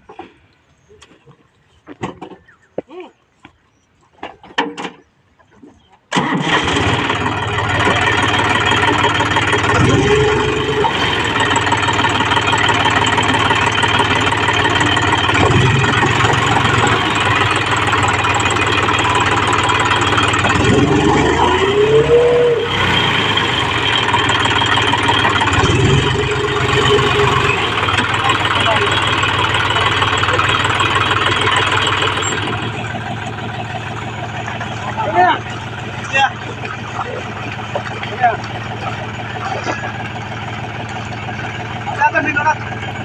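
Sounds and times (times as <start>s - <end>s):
tractor engine revving: 6.1s - 43.0s.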